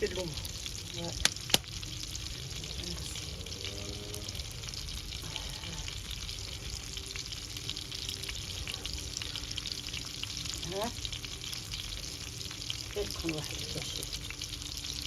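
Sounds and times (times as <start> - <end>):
wood fire crackling and sizzling: 0.0 - 15.0.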